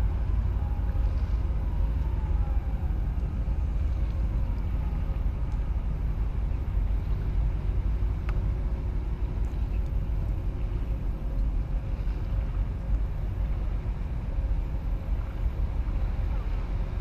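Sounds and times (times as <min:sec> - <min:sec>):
faint steady hum: 0:00.0 - 0:17.0
ship engine rumble: 0:00.0 - 0:17.0.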